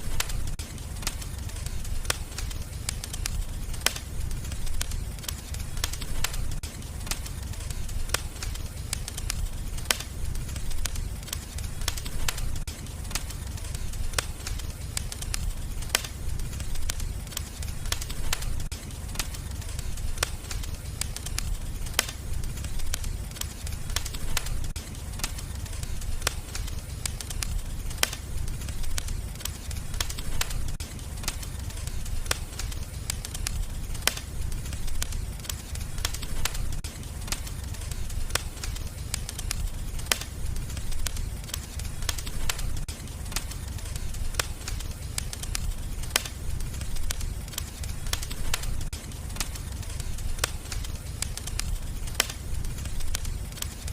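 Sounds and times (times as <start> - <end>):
low rumble of flames: 0.0 - 53.9
wood fire crackling: 0.0 - 53.9.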